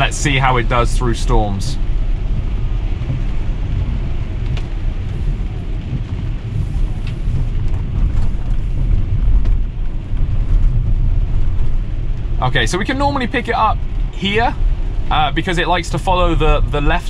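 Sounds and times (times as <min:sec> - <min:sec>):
low car cabin rumble: 0:00.0 - 0:17.0
rain on car: 0:00.0 - 0:17.0
tyres on wet road: 0:00.0 - 0:17.0.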